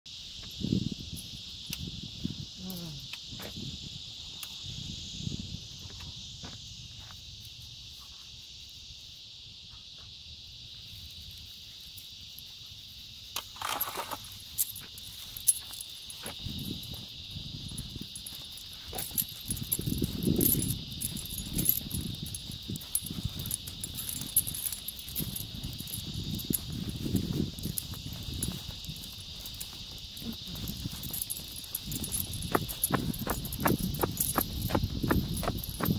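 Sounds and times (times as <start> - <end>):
insects chirping: 0.1 - 35.9.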